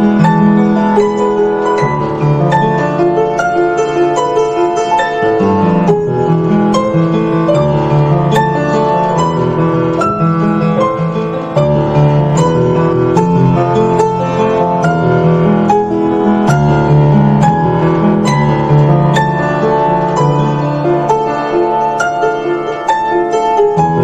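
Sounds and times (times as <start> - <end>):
piano background music: 0.0 - 24.0.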